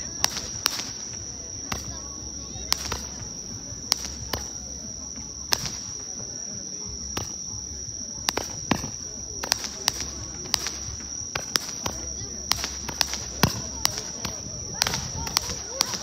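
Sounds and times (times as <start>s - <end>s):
firework pops: 0.0s - 16.0s
insects chirring: 0.0s - 16.0s.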